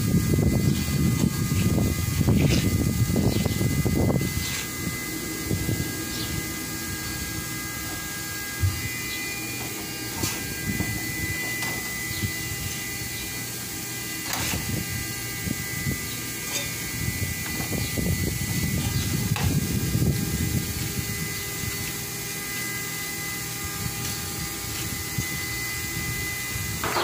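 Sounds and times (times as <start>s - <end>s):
high-pitched machine hum: 0.0s - 27.0s.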